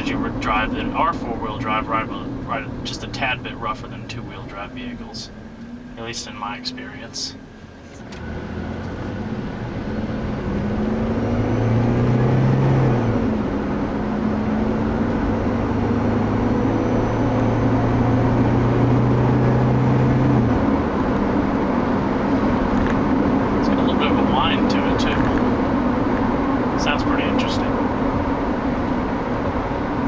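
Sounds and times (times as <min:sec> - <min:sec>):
car engine accelerating: 0:00.0 - 0:30.0
road and tyre noise: 0:00.0 - 0:30.0.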